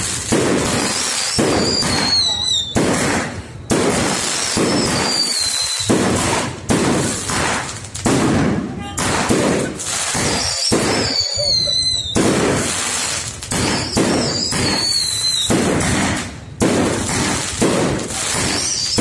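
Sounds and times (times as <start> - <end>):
fireworks bangs and crackles: 0.0 - 19.0
firework whistles falling: 0.6 - 7.3, 8.9 - 19.0.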